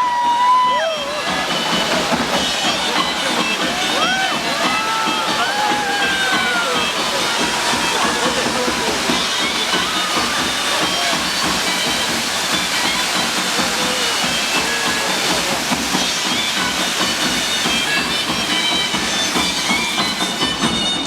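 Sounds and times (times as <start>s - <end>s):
loud hiss: 0.0s - 21.0s.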